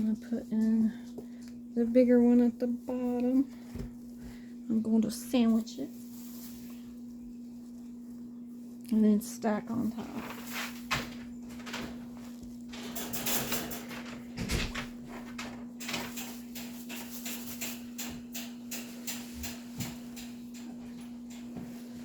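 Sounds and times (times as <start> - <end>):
steady low hum: 0.0 - 22.0
stuffing rustling and crackling: 0.0 - 22.0.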